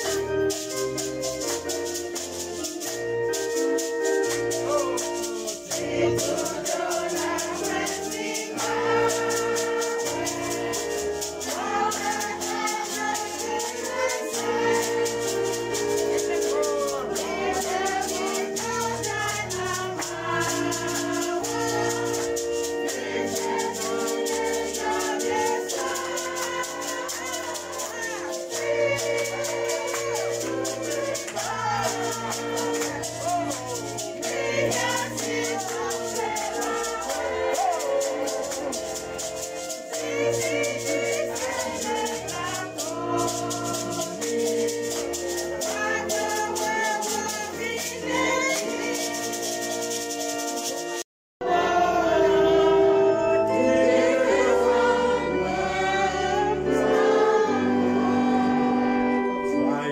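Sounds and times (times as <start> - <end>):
shaker rattling: 0.0 - 51.0
voices singing: 0.0 - 59.9.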